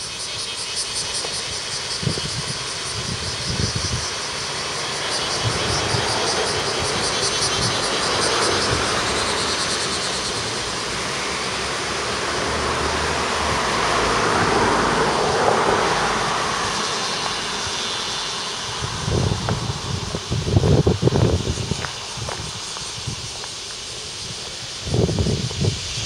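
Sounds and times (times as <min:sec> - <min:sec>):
passing vehicle rushing: 0:02.0 - 0:23.3.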